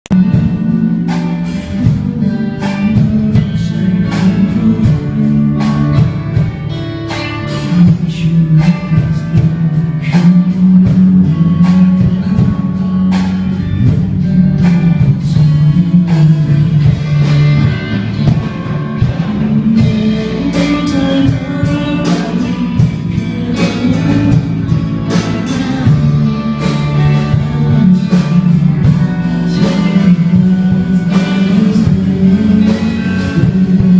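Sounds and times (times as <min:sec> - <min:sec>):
bass line: 0:00.0 - 0:33.9
regular beat: 0:00.0 - 0:33.9
plucked guitar music: 0:00.1 - 0:33.9.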